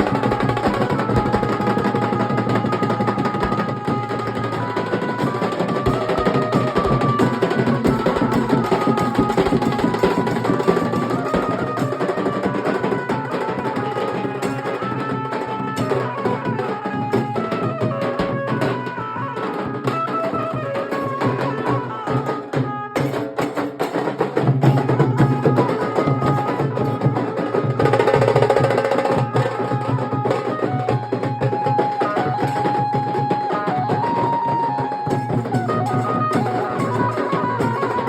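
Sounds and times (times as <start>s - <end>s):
dhol drums beating: 0.0s - 38.0s.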